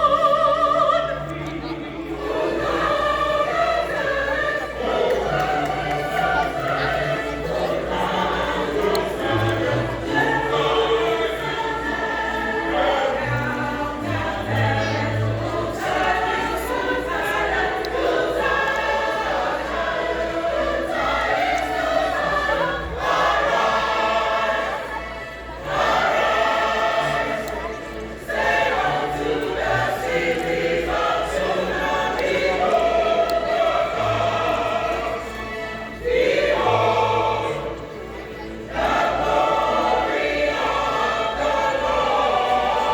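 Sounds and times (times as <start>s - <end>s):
choir singing a carol: 0.0s - 42.9s.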